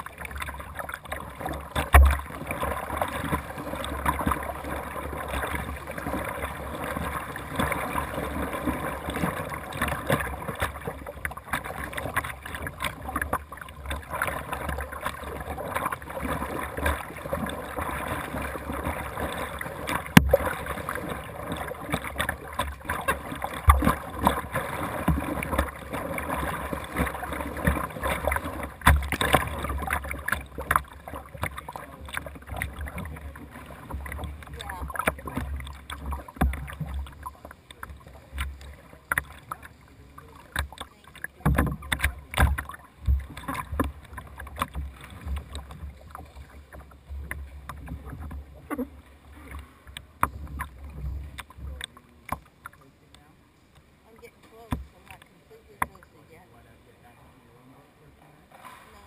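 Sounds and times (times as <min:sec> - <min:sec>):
paddle strokes splashing: 0:00.0 - 0:59.0
water sloshing against kayak: 0:00.0 - 0:59.0.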